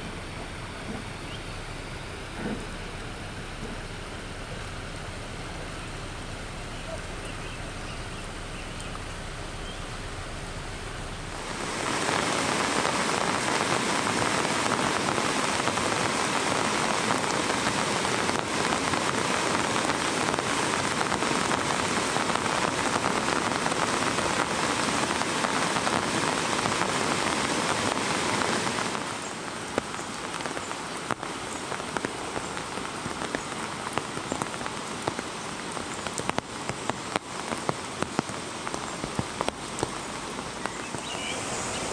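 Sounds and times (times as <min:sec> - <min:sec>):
raindrops on wet leaves: 0:00.0 - 0:41.9
rushing flooded river: 0:00.0 - 0:41.9.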